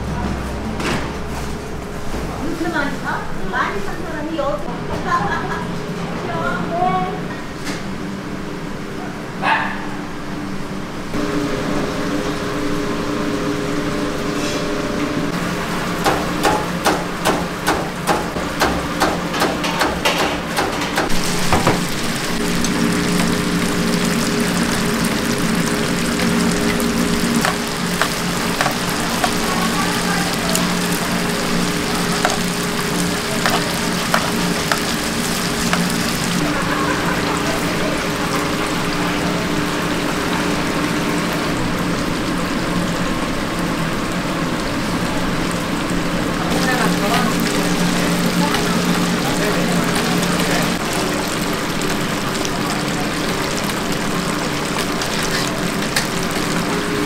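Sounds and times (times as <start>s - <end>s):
machine hum: 0.0s - 57.0s
oil sizzling in deep fryer: 11.1s - 57.0s.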